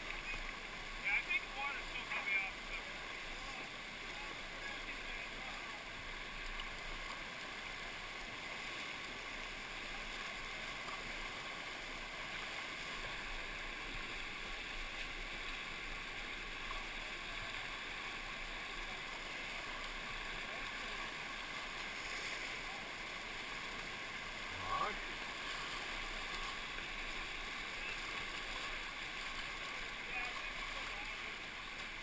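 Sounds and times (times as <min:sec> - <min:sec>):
whitewater rushing: 0:00.0 - 0:32.0.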